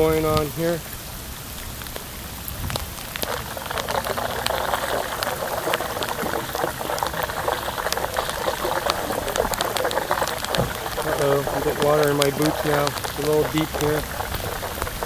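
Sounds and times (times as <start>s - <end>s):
water swirling and gurgling: 0.0s - 15.0s.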